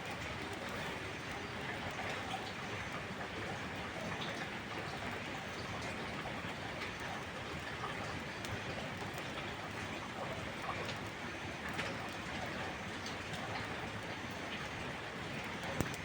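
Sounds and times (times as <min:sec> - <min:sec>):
raindrop ticks: 0:00.1 - 0:16.0.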